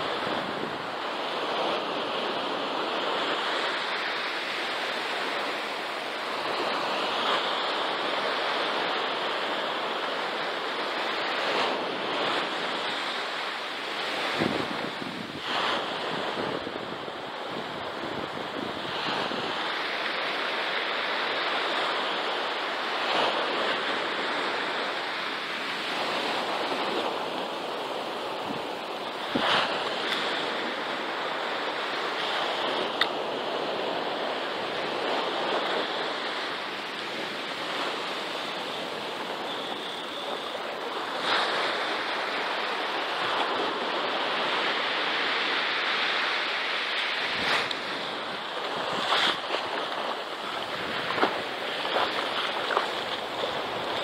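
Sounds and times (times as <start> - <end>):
surf breaking on a beach: 0.0 - 54.0
wind buffeting microphone: 0.0 - 54.0.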